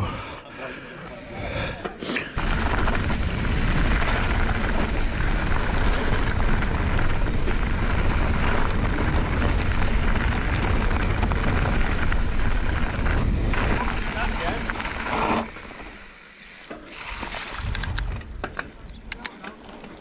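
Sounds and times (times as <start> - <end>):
bike tyres rolling on gravel: 2.4 - 20.0.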